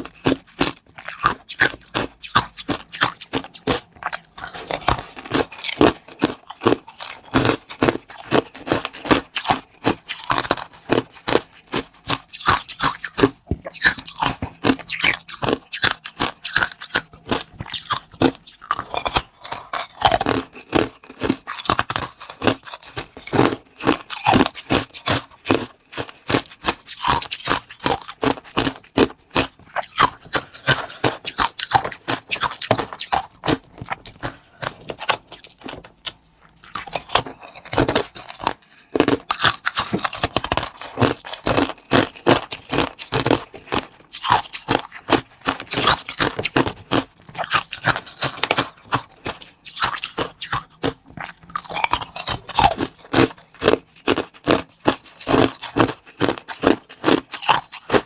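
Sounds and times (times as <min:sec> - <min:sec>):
crunching and chewing food: 0:00.0 - 0:58.0.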